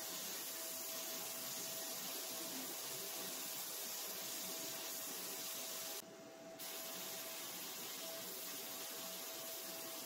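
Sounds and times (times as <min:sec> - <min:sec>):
thin steady whine: 0:00.0 - 0:10.0.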